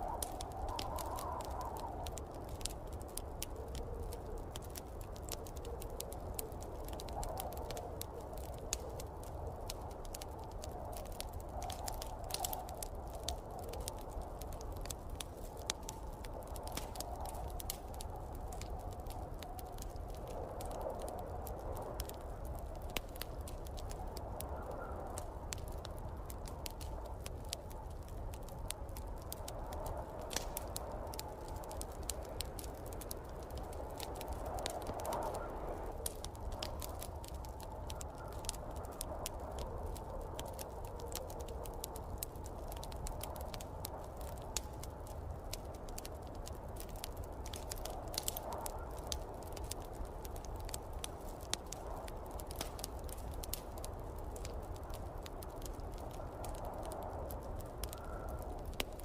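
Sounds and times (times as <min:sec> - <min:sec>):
snowstorm wind: 0:00.0 - 0:59.0
wood fire crackling and popping: 0:00.0 - 0:59.0.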